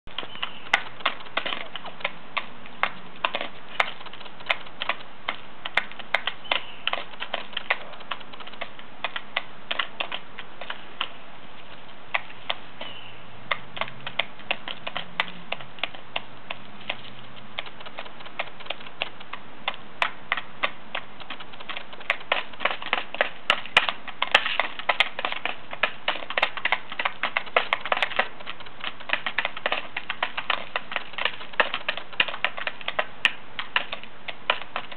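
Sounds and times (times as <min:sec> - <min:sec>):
beaks clicking on plastic tubs: 0:00.1 - 0:34.9.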